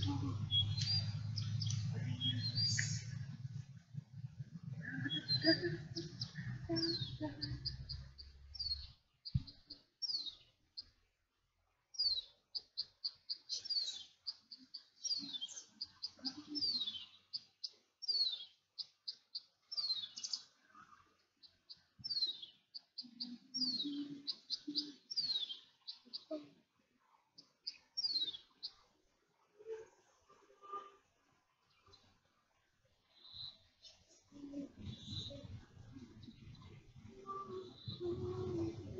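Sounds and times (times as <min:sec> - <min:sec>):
songbird singing: 0:00.0 - 0:28.9, 0:30.6 - 0:38.9.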